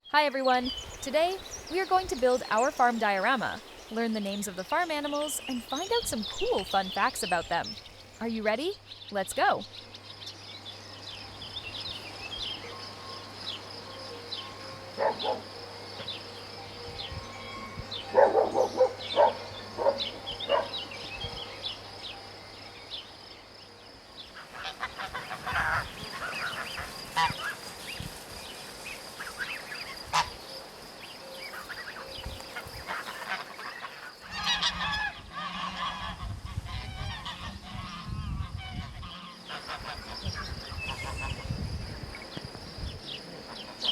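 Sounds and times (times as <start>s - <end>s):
farm birds calling: 0.0s - 43.9s.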